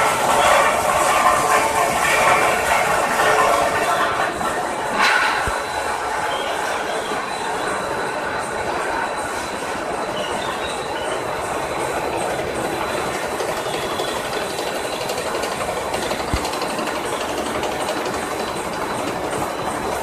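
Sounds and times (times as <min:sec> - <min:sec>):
high-pitched whine: 0:00.0 - 0:20.0
machinery rattling: 0:00.0 - 0:20.0.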